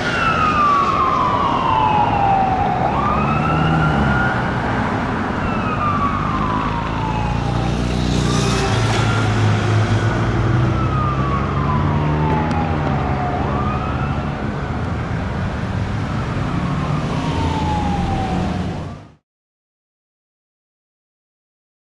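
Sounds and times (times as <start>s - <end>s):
siren wailing: 0.0s - 19.2s.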